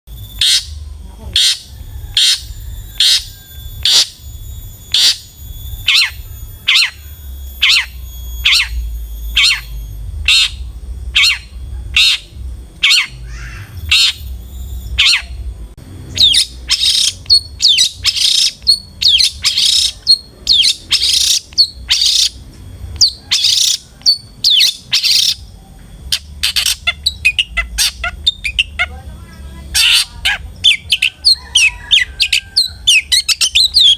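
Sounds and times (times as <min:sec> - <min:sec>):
steady low rumble: 0:00.1 - 0:33.9
bird giving harsh rasping calls: 0:00.4 - 0:04.2, 0:04.8 - 0:07.0, 0:07.6 - 0:14.4, 0:15.0 - 0:15.4, 0:16.1 - 0:22.4, 0:23.0 - 0:25.5, 0:26.1 - 0:33.9.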